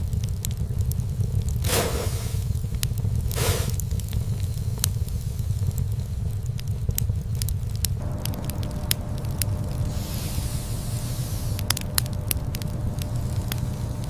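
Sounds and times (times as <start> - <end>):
fire crackling and popping: 0.0 - 14.0
fire hiss: 0.0 - 14.0.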